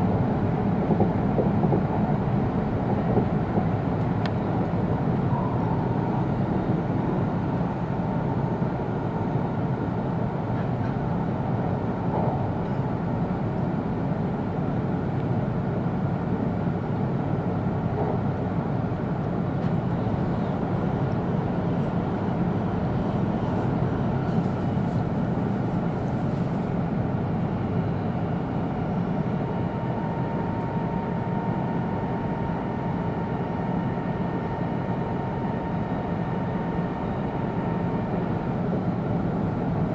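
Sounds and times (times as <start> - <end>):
train interior low rumble: 0.0 - 39.9.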